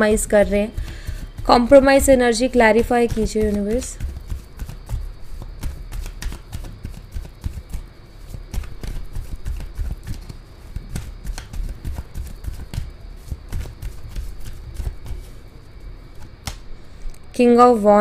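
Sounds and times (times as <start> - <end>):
low handling thumps: 0.0 - 15.5
cards being shuffled: 0.1 - 15.5, 16.1 - 16.7.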